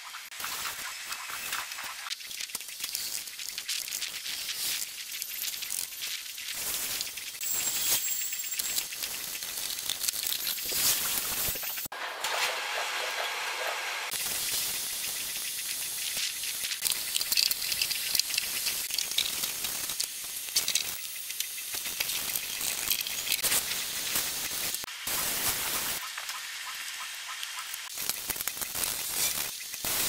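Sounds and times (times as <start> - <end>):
pump sprayer hissing and spattering: 0.4 - 26.1, 27.9 - 30.0.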